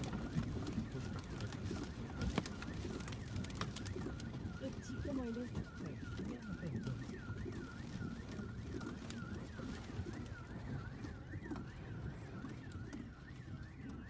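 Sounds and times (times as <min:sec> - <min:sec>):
car alarm: 0:00.0 - 0:14.0.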